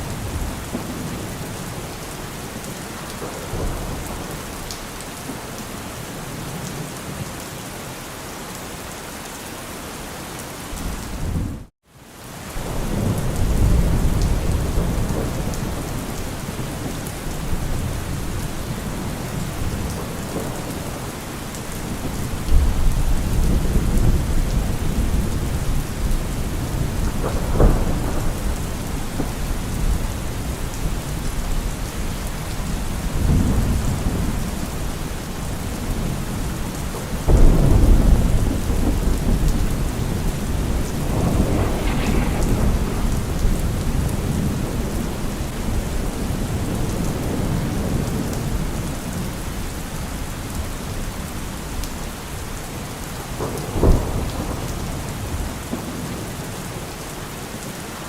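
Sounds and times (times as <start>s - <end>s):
thunder rumbling: 0.0s - 6.5s, 12.6s - 56.9s
heavy rain on car roof: 0.0s - 7.4s, 12.3s - 58.0s.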